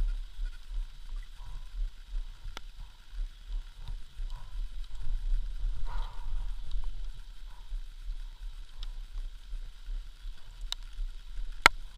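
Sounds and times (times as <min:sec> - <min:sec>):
dirt bike engine rumble: 0:00.0 - 0:11.9
wind on microphone: 0:00.0 - 0:11.9.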